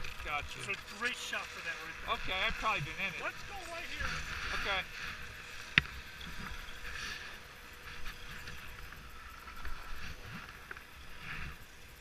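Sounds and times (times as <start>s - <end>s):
skis carving on snow: 0.0s - 12.0s.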